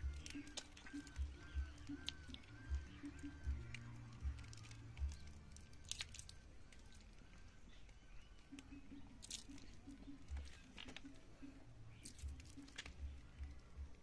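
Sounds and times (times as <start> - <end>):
honeycomb crackling and squishing: 0.0 - 14.0.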